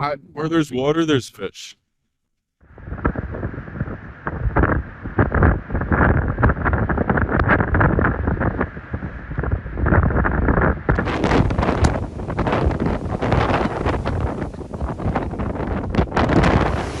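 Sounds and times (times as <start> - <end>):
gusty storm wind buffeting microphone: 2.7 - 17.0.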